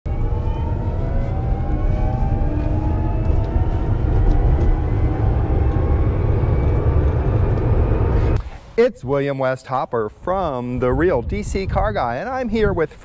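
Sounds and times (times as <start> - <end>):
wind and tyre rumble: 0.1 - 8.4, 10.1 - 13.0.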